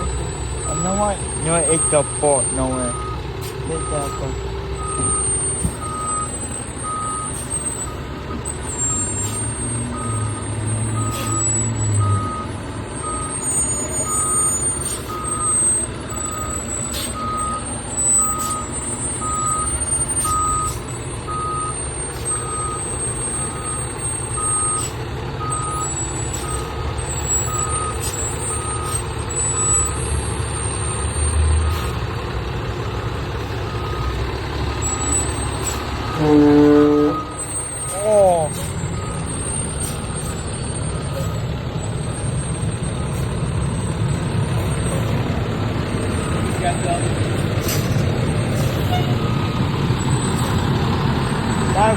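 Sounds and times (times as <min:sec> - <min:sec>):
reversing alarm beeping: 0:00.0 - 0:32.0, 0:32.9 - 0:51.9
diesel engine rumbling: 0:00.0 - 0:51.9.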